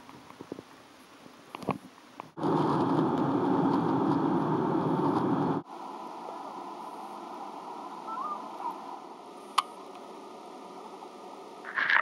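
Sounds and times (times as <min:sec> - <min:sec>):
underwater tank hiss and hum: 0:01.2 - 0:12.0.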